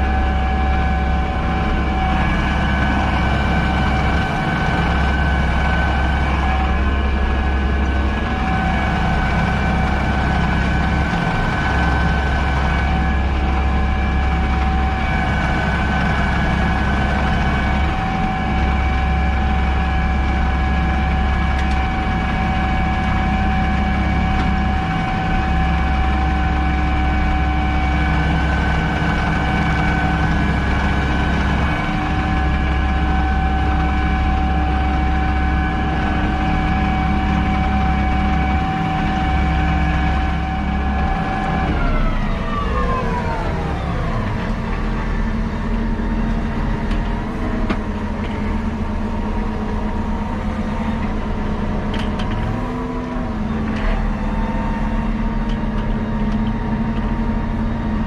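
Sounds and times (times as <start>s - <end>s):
high whine: 0.0s - 55.4s
tractor engine hum: 0.0s - 58.0s.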